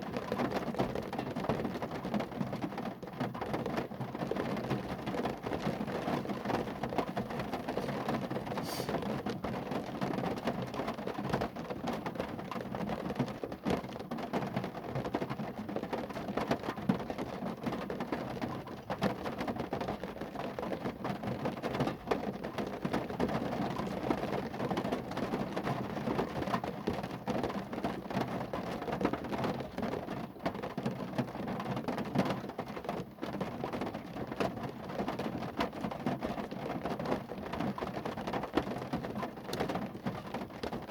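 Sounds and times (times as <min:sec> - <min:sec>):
rain pattering on a car: 0:00.0 - 0:40.9.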